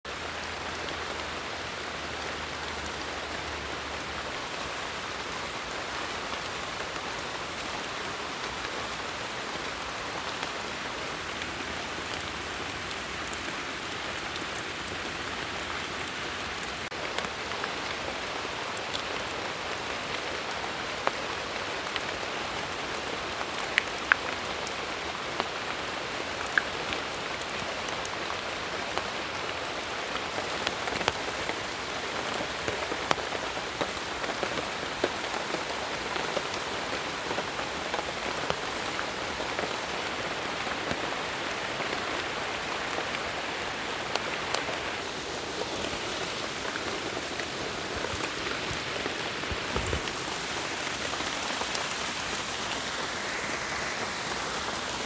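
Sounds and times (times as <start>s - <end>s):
rain pattering on foliage: 0.1s - 55.0s.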